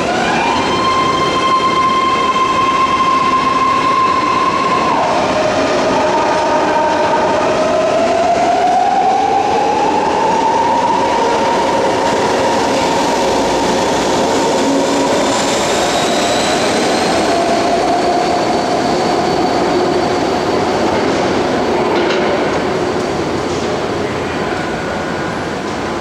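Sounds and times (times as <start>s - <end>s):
train rolling with high whine: 0.0s - 26.0s.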